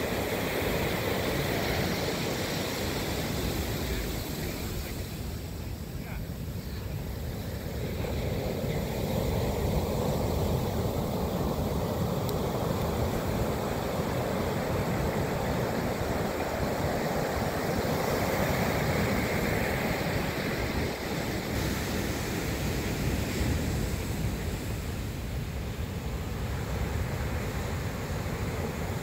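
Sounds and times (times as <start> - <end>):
ocean surf washing on shore: 0.0 - 29.0.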